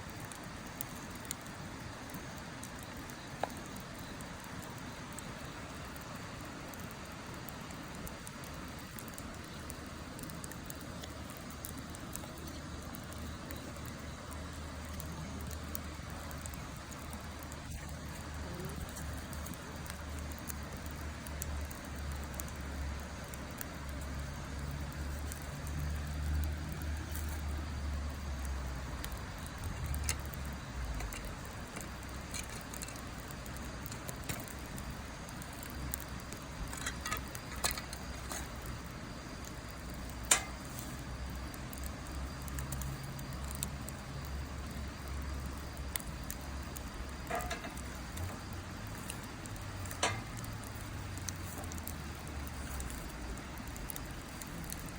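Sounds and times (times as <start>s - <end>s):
steady low rumble: 0.0s - 54.9s
wood fire crackling: 0.0s - 54.9s.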